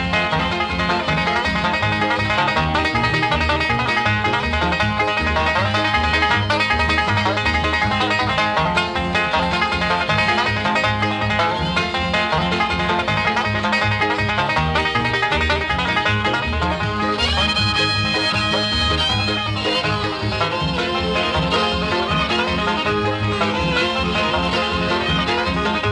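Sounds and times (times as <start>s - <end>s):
bass beat: 0.0s - 25.9s
bluegrass music with banjo: 0.0s - 25.9s.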